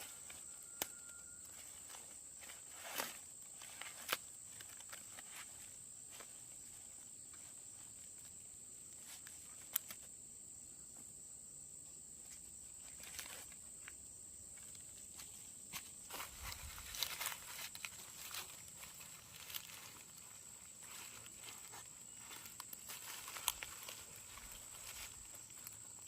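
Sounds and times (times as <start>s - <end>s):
high-pitched insect trill: 0.0s - 10.8s, 12.2s - 26.0s.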